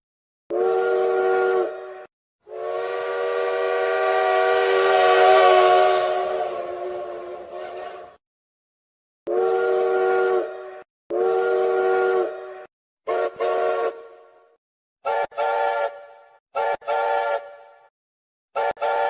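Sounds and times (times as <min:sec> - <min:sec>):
steam locomotive whistle blasts: 0:00.5 - 0:08.2, 0:09.3 - 0:17.9, 0:18.6 - 0:19.0.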